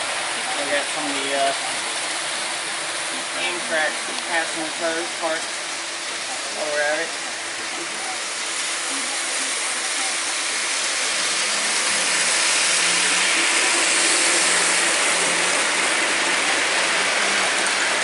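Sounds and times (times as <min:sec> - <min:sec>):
model trains whirring on track: 0:00.0 - 0:18.0.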